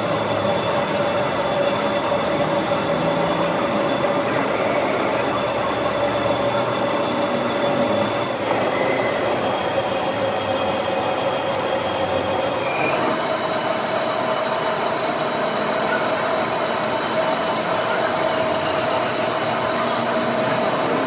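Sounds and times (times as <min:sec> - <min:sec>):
metalworking machine whine: 0:00.0 - 0:21.0.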